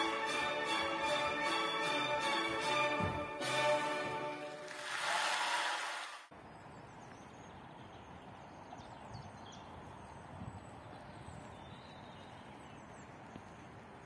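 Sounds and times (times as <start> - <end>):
background noise: 0.0 - 14.0.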